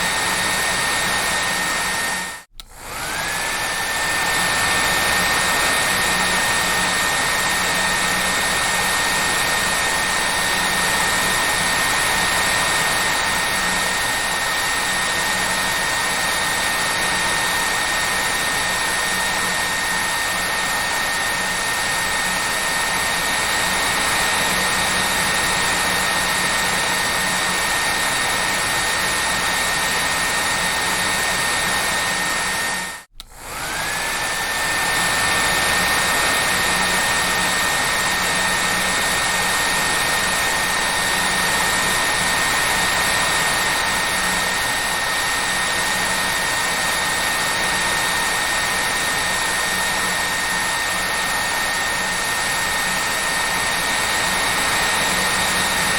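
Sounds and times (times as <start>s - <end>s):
hair dryer whining: 0.0s - 55.9s.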